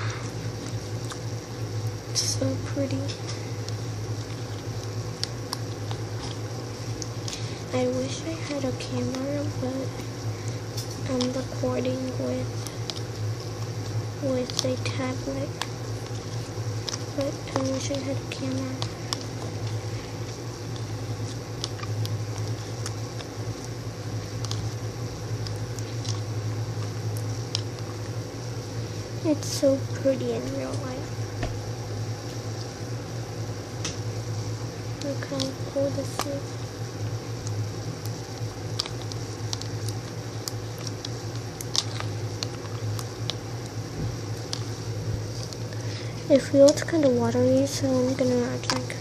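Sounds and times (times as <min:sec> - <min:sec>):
wet slime squishing: 0:00.0 - 0:33.2, 0:33.8 - 0:49.0
steady low hum: 0:00.0 - 0:49.0.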